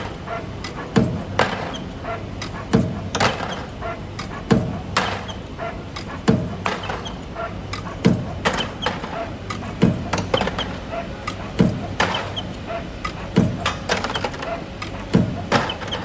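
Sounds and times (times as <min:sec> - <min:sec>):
sharp knocks: 0:00.0 - 0:16.0
steady low hum: 0:00.0 - 0:16.0.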